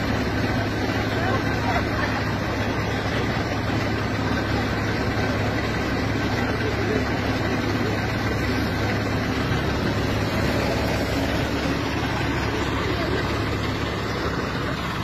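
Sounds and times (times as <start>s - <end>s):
fire engine idling: 0.0s - 15.0s
people talking: 0.0s - 15.0s.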